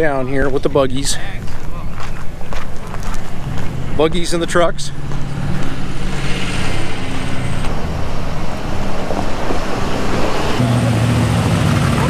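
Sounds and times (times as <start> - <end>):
vehicle engine low hum: 1.4 - 12.0.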